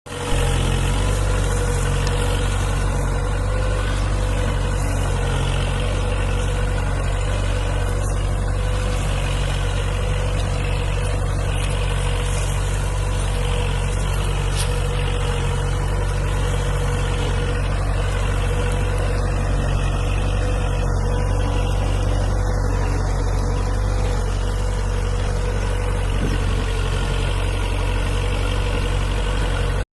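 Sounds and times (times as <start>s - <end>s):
steady whine: 0.1s - 29.8s
tractor diesel engine idling: 0.1s - 29.8s.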